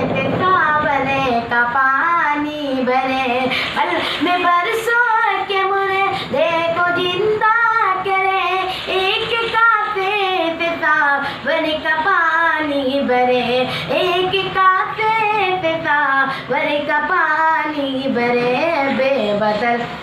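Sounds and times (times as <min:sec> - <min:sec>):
boy singing unaccompanied: 0:00.0 - 0:20.0.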